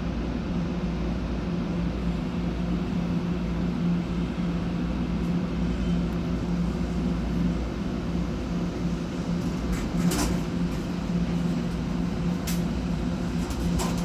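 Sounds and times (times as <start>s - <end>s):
constant droning hum: 0.0s - 14.0s.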